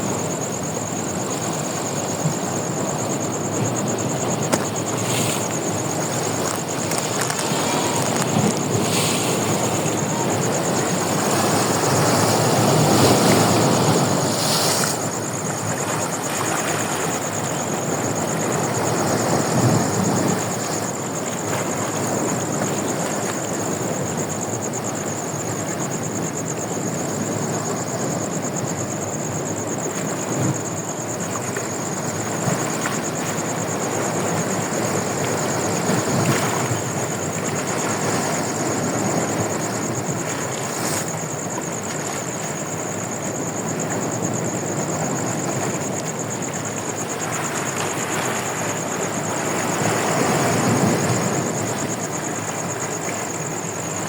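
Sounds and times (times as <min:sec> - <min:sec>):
sea waves washing onto beach: 0:01.0 - 0:24.6, 0:29.7 - 0:54.0.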